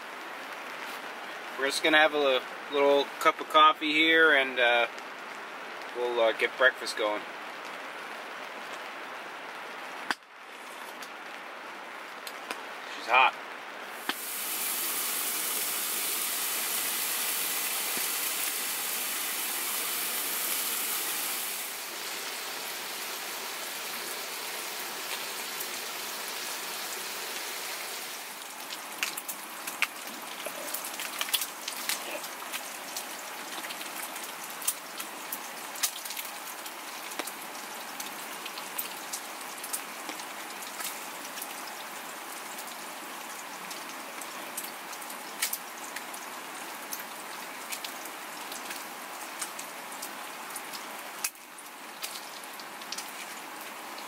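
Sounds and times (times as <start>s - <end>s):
rain on tent: 0.0s - 54.0s.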